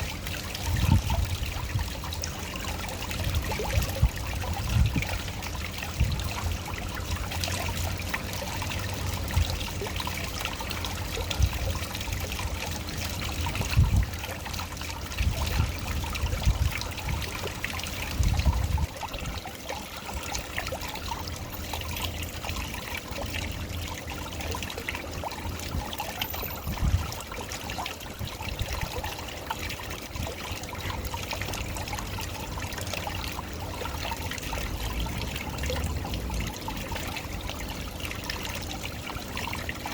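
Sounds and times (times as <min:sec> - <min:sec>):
waterfall splashing and trickling: 0:00.0 - 0:39.9.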